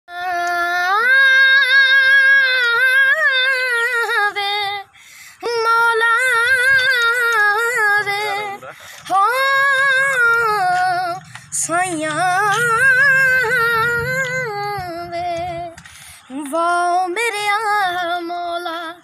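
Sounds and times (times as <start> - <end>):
boy singing unaccompanied: 0.1 - 19.0.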